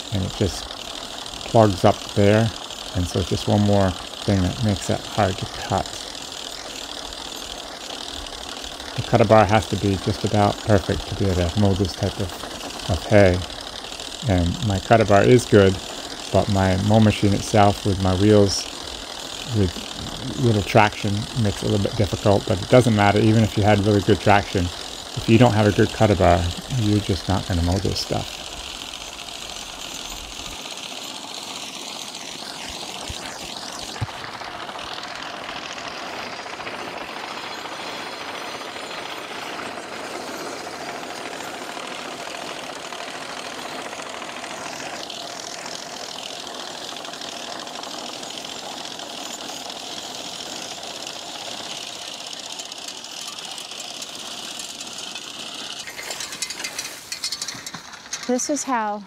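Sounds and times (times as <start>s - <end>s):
mowing machine cutter bar clattering: 0.0s - 58.9s.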